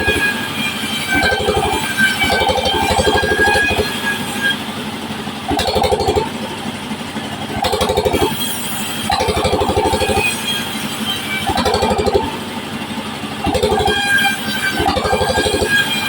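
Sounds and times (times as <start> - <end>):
engine-driven bandsaw running: 0.0 - 16.0.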